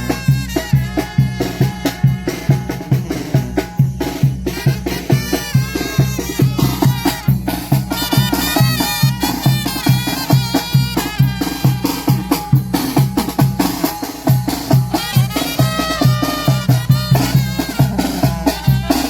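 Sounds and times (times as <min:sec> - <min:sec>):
brass band playing: 0:00.0 - 0:19.0
oom-pah bass beat: 0:00.0 - 0:19.0.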